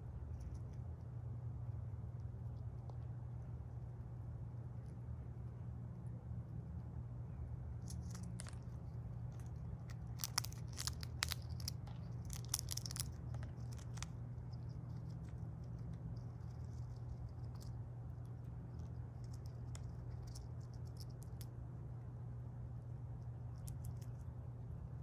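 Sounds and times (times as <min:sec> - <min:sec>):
squirrel gnawing shell: 0:00.0 - 0:21.8, 0:22.8 - 0:24.4
low hum: 0:00.0 - 0:25.0.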